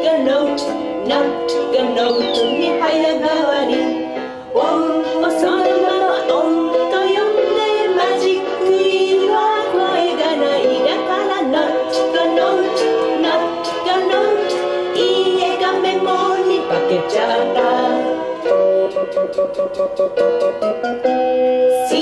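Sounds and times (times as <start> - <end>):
person singing: 0.0 - 20.1, 21.7 - 22.0.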